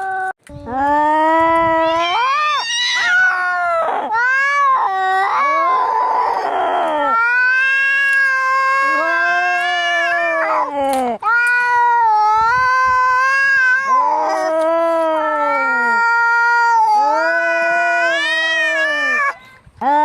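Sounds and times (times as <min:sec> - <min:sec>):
cats yowling: 0:01.5 - 0:19.4.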